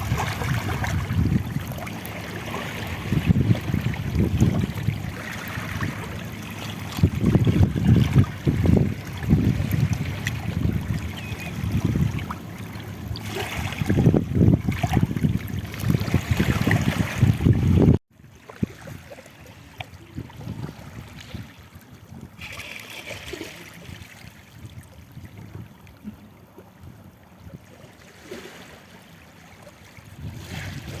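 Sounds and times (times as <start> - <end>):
wind rumbling on microphone: 0.0 - 19.0, 19.6 - 22.4, 23.8 - 27.8, 30.1 - 31.0
water at the shoreline: 0.0 - 31.0.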